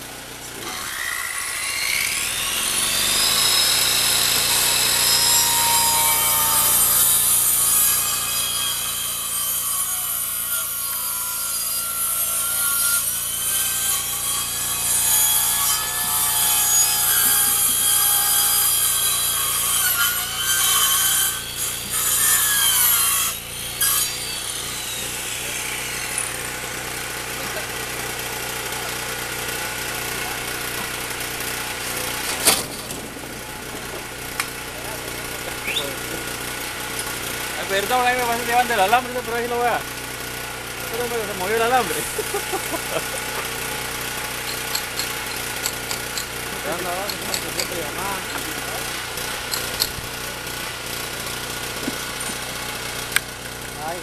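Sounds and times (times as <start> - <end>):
power tool whining and cutting: 0.0 - 54.0.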